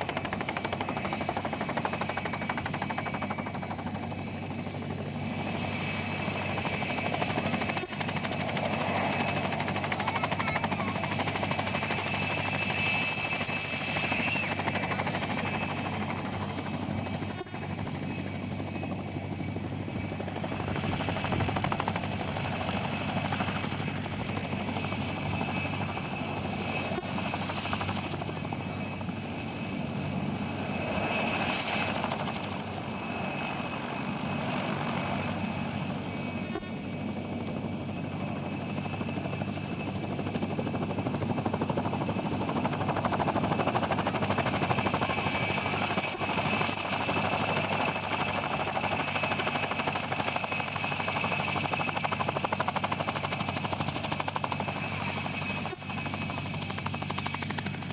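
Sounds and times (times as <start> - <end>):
helicopter engine whine: 0.0 - 57.9
helicopter rotors running: 0.0 - 57.9.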